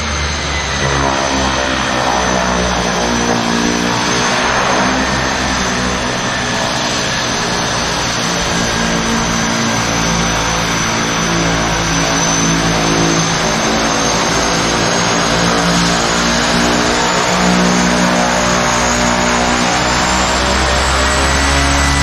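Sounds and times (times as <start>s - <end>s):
turboprop engines with whine: 0.0s - 22.0s.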